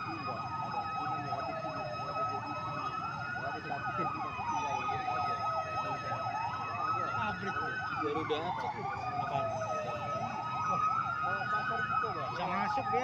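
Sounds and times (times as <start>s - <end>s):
siren wailing: 0.0s - 13.0s
siren yelping: 0.0s - 13.0s
steady high siren tone: 0.0s - 13.0s.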